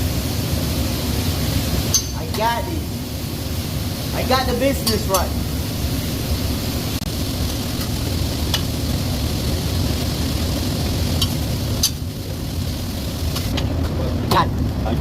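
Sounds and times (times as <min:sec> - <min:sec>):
food sizzling in a pan: 0:00.0 - 0:13.5
kitchen low rumble: 0:00.0 - 0:15.0.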